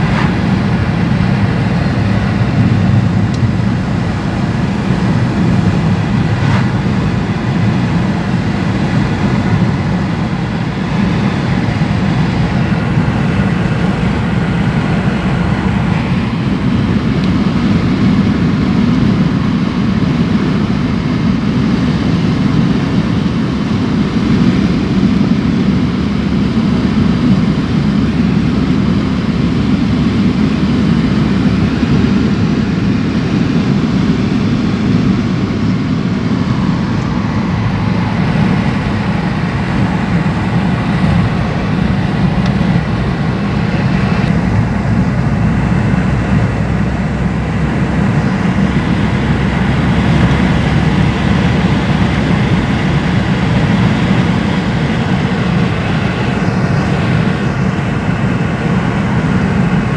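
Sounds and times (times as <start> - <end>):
car interior road rumble: 0.0 - 22.8, 23.4 - 59.9.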